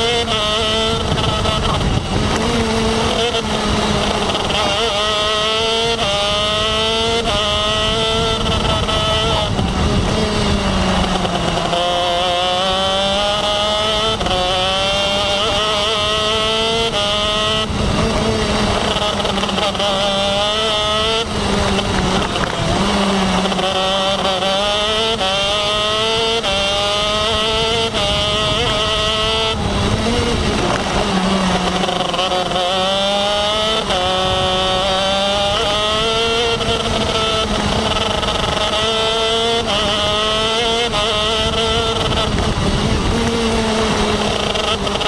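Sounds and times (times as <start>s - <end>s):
kart engine shifting gears: 0.0s - 45.0s.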